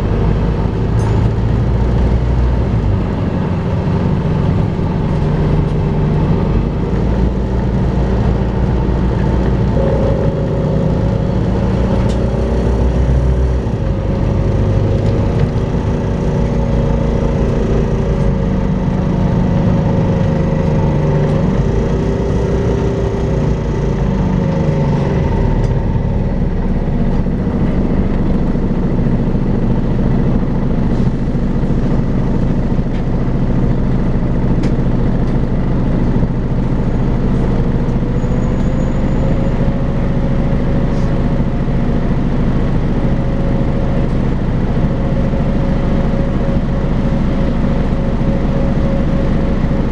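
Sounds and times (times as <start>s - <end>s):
bus engine running with whine: 0.0s - 49.9s.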